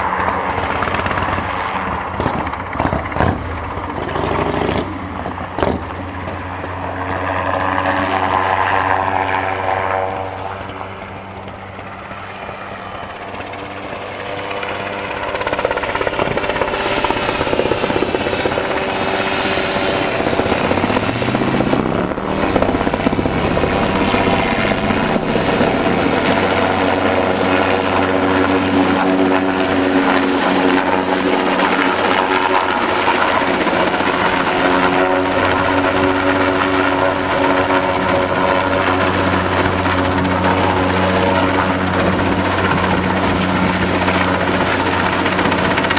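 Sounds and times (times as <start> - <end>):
helicopter flying overhead: 0.0 - 45.9.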